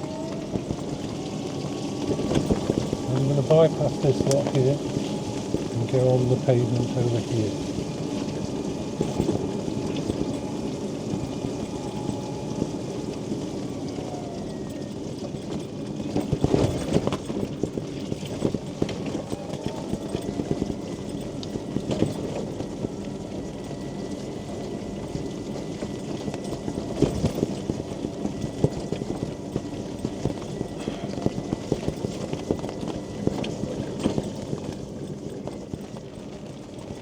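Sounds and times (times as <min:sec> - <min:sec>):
rain on a canopy: 0:00.0 - 0:37.0.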